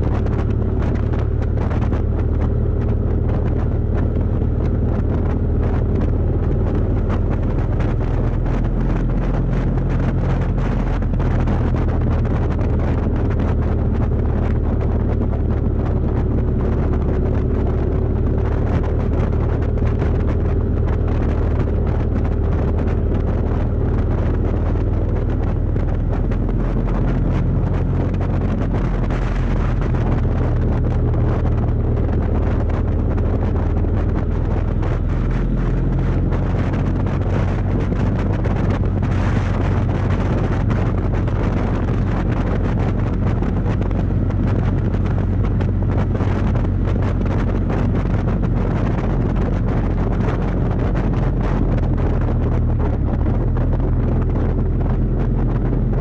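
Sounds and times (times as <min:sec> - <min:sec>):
motorcycle engine droning: 0:00.0 - 0:56.0
wind rushing over microphone: 0:00.0 - 0:56.0.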